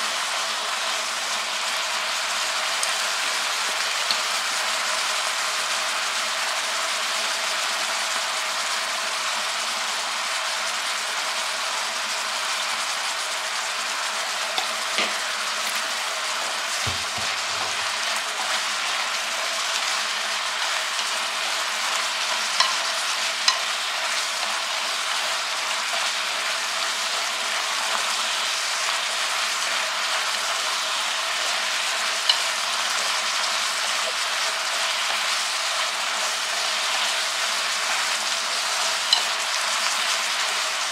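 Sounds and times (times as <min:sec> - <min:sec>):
meat and onion sizzling: 0:00.0 - 0:40.9.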